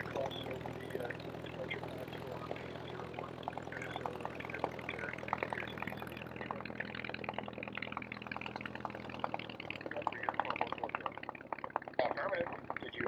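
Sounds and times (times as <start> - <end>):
biplane engine running at low power: 0.0 - 13.0.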